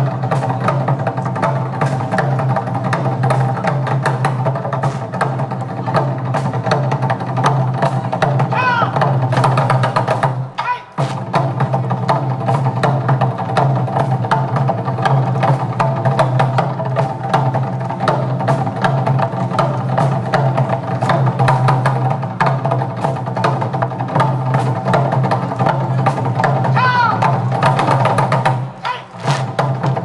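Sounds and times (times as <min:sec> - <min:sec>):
drum ensemble playing fast: 0:00.0 - 0:30.0.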